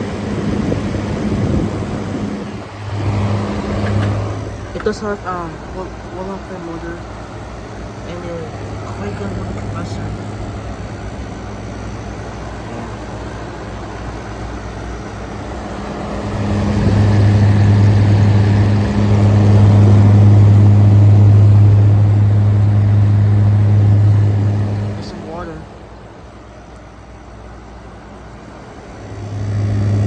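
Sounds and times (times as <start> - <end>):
air conditioner compressor hum: 0.0 - 30.0
fan rushing air: 0.0 - 30.0.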